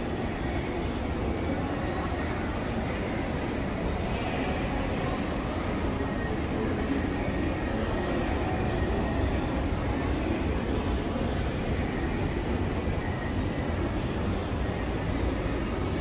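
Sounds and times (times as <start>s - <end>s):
crowd noise: 0.0s - 16.0s
faint voices: 0.0s - 16.0s.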